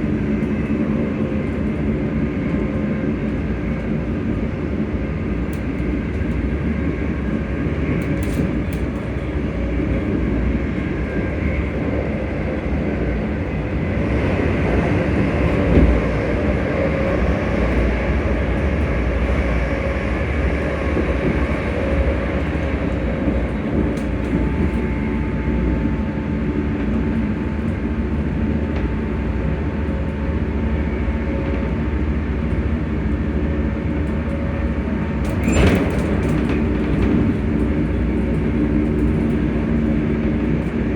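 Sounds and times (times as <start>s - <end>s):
train rumbling on rails: 0.0s - 40.9s
train traction motors humming: 0.0s - 40.9s.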